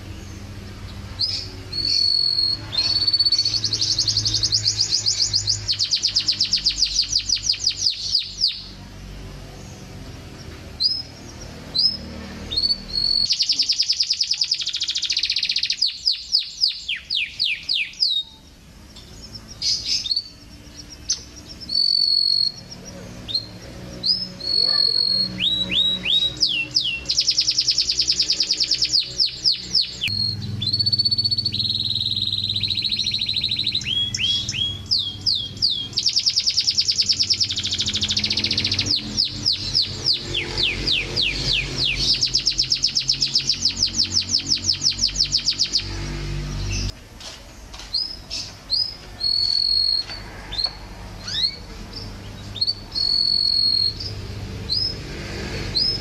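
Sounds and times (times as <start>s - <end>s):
canary singing: 0.0s - 47.0s, 47.9s - 56.0s.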